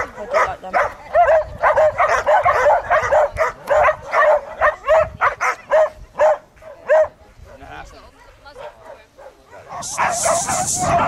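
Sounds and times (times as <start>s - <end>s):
dog barking rapidly: 0.0s - 7.1s, 8.2s - 11.0s.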